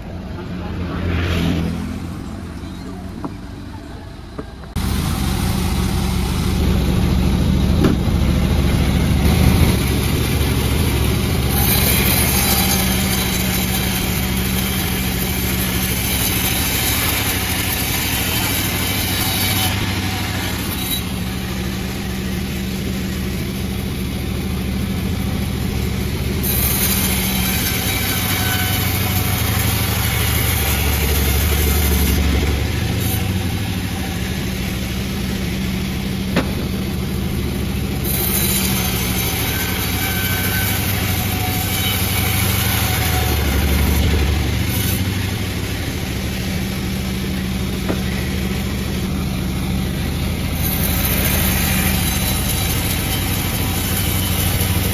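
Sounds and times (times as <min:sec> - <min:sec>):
chainsaw engine running: 0:04.8 - 0:40.0, 0:40.6 - 0:54.9.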